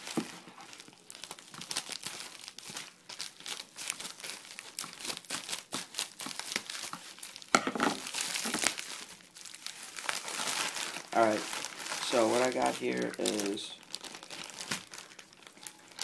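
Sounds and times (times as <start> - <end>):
packaging crinkling and tearing: 0.0 - 16.0.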